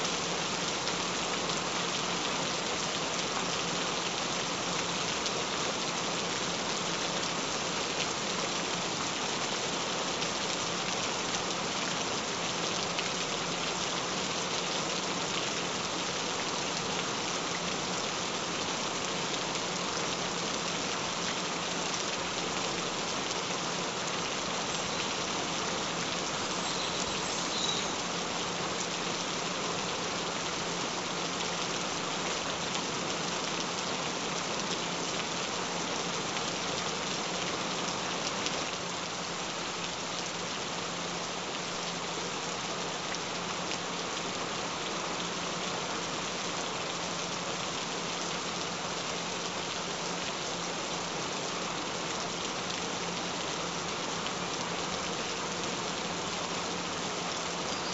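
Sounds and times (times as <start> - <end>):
steady rain patter: 0.0 - 57.9.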